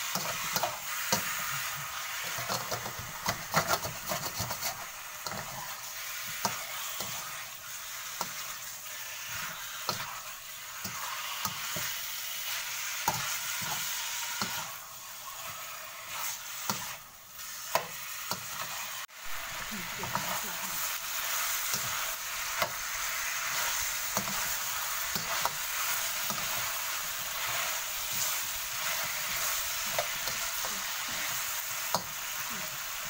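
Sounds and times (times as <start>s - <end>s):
meat sizzling in a wok: 0.0s - 33.0s.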